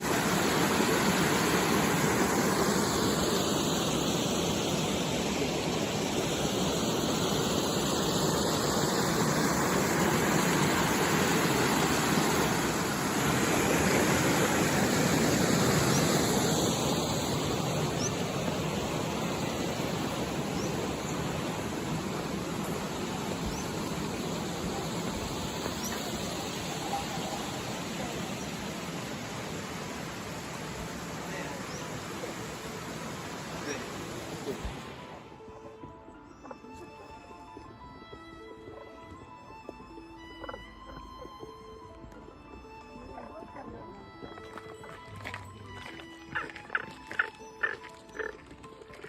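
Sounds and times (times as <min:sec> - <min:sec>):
flowing water rushing: 0:00.0 - 0:36.0, 0:44.0 - 0:49.0.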